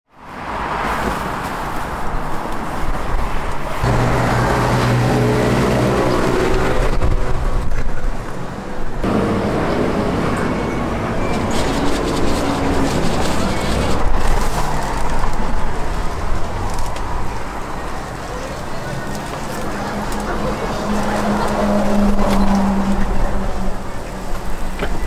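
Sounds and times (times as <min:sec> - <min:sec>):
city street traffic: 0:00.1 - 0:25.0.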